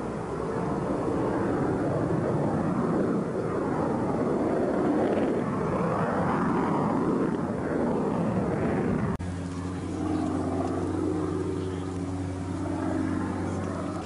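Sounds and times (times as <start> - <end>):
jet fighter engine rushing: 0.0 - 14.0
steady drone with low hum: 0.0 - 14.0.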